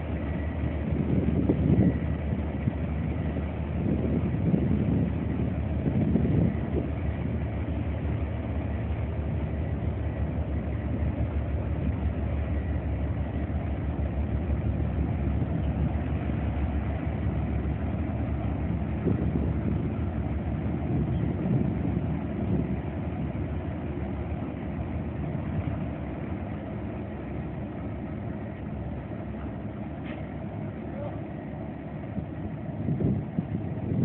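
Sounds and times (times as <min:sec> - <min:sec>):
boat engines low drone: 0:00.0 - 0:34.0.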